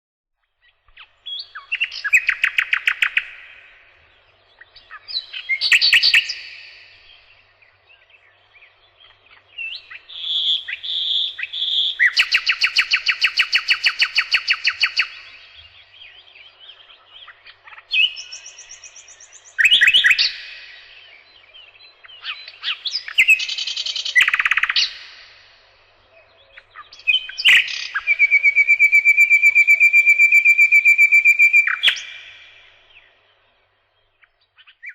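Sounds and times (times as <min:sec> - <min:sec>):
songbird trilling and chirping: 0:00.4 - 0:34.9.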